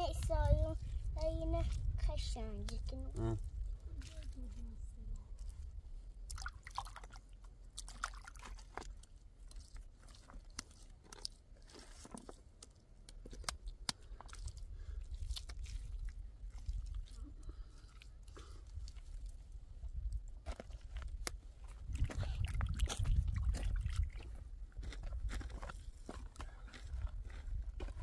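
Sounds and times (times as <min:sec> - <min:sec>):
crunching and crackling: 0:02.2 - 0:28.0.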